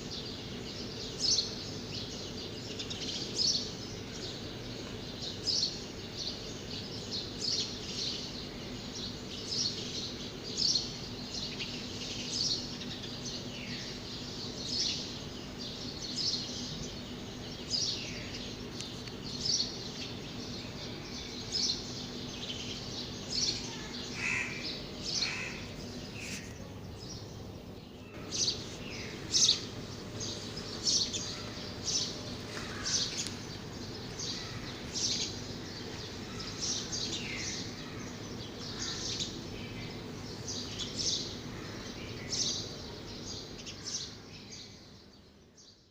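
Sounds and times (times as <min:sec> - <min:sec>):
small birds chirping: 0:00.0 - 0:45.9
steady background hum: 0:00.0 - 0:45.9.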